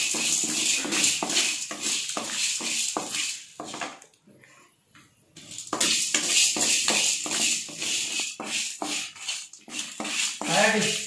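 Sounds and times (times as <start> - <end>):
spatula scraping spices in metal pan: 0.0 - 4.0, 5.4 - 11.0.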